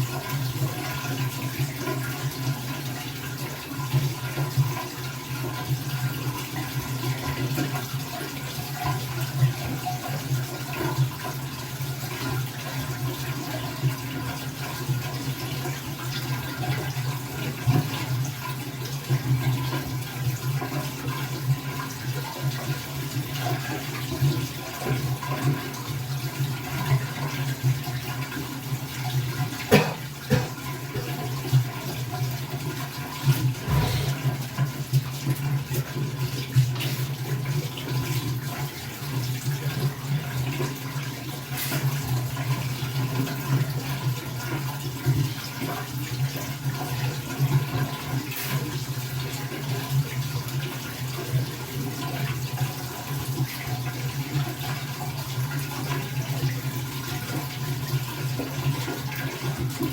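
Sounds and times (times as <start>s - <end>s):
tap water running into sink: 0.0s - 59.9s.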